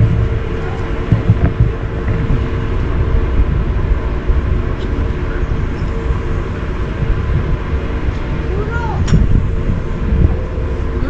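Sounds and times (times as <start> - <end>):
mid-pitched hum: 0.0 - 11.0
wind and ship rumble: 0.0 - 11.0.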